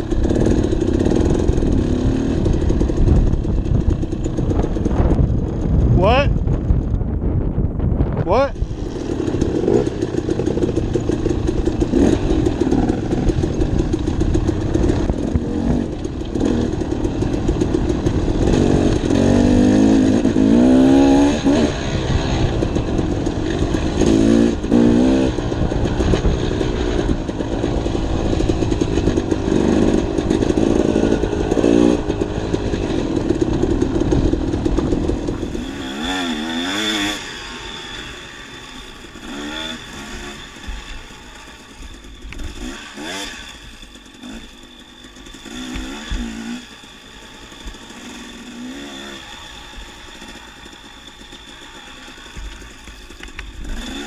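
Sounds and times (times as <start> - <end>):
dirt bike engine revving: 0.0 - 6.5, 8.2 - 54.0.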